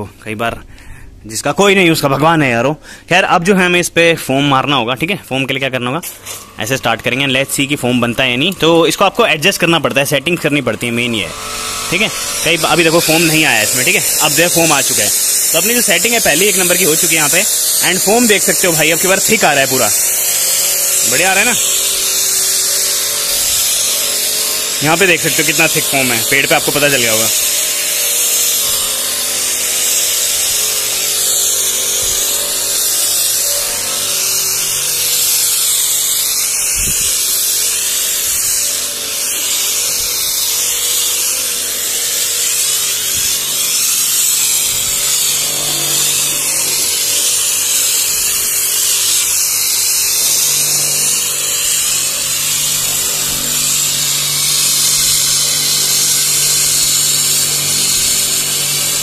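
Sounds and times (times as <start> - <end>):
pressure washer motor humming: 6.0 - 59.0
hiss of spray: 11.4 - 59.0.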